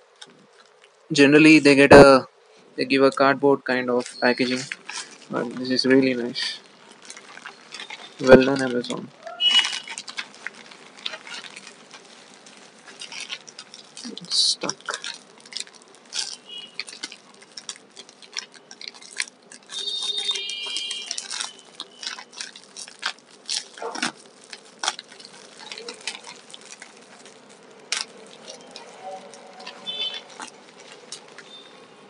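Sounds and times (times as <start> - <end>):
bubble wrap crinkling and crackling: 0.0 - 32.0.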